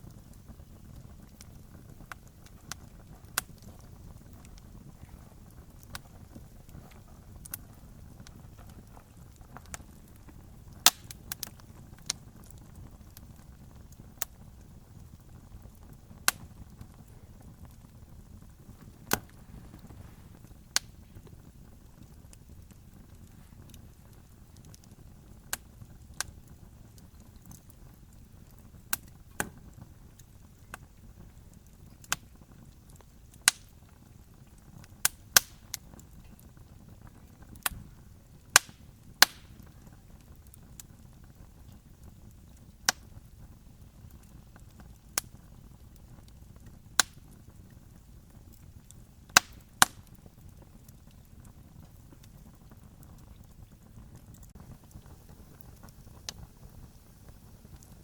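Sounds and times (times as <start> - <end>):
campfire crackling and popping: 0.0 - 58.0
faint low hiss: 0.0 - 58.0.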